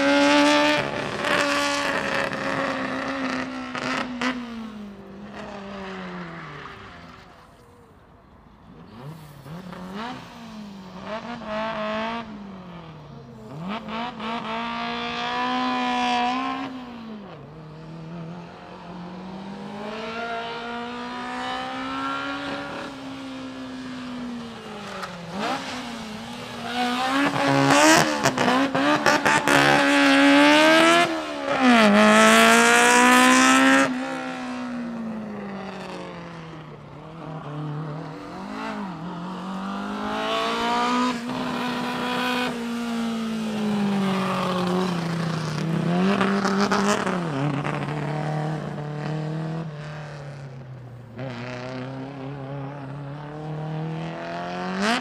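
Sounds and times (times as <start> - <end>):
car engine revving: 0.0 - 7.7, 8.6 - 55.0.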